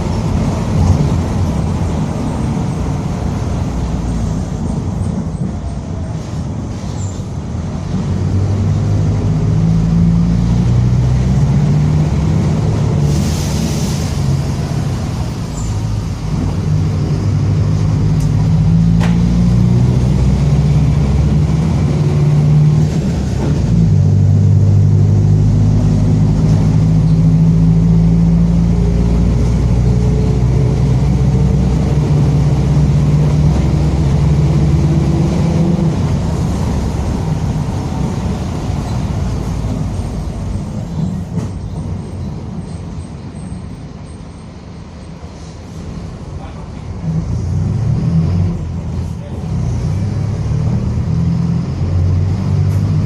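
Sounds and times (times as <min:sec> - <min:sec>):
bus engine under load: 0:00.0 - 0:53.0.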